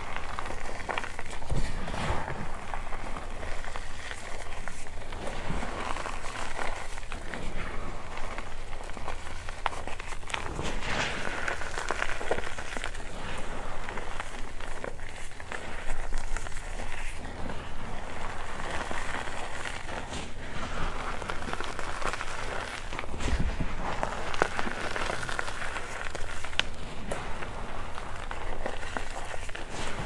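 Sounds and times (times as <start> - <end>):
hands crumbling chalk crackle: 0.0 - 30.0.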